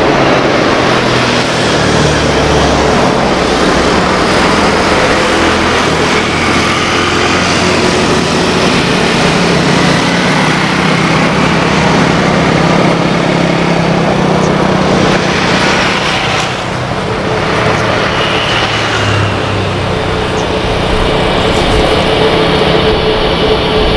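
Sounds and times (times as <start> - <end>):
jet airliner landing: 0.0 - 23.9
low hum: 0.0 - 23.9.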